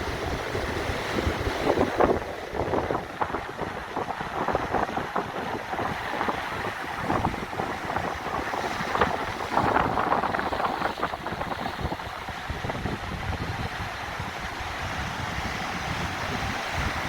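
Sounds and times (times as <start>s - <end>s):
sea waves washing: 0.0s - 17.0s
wind buffeting the microphone: 0.0s - 17.0s.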